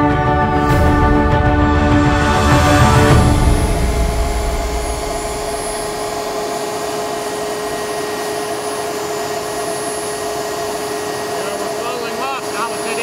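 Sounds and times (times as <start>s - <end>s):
jet turbine idling: 0.0s - 13.0s.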